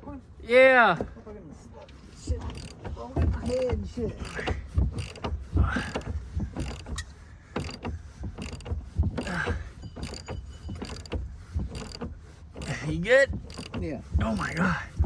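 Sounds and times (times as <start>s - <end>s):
ratchet wrench clicking: 2.4s - 14.8s.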